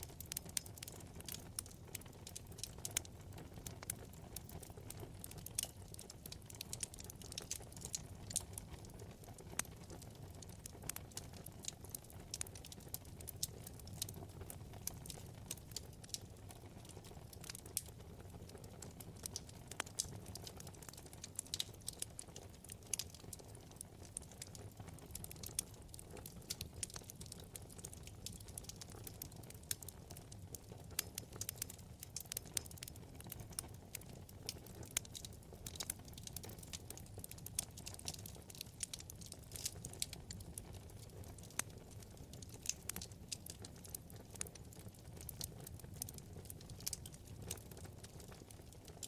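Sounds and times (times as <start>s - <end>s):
low rumble of flames: 0.0s - 49.0s
wood fire crackling: 0.0s - 49.0s.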